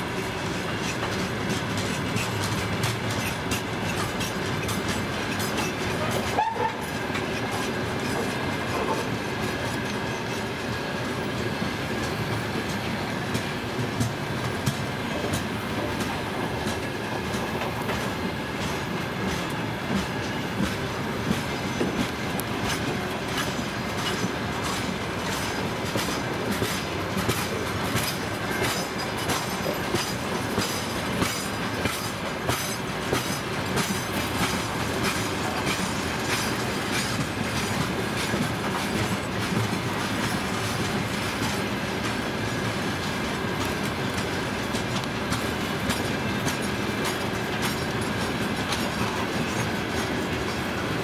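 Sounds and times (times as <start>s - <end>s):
freight train rolling past: 0.0s - 51.0s
wheels clacking over rail joints: 0.0s - 51.0s.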